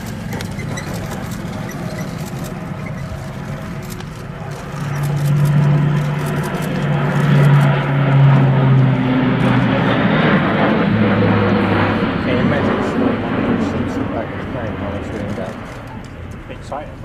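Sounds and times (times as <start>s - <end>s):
propeller aircraft flying overhead: 0.0s - 17.0s.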